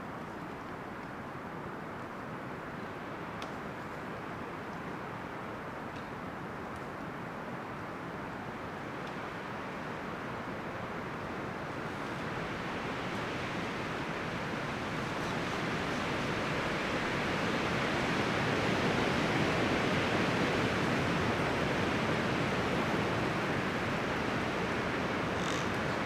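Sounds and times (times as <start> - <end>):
wind rustling leaves in trees: 0.0 - 26.0.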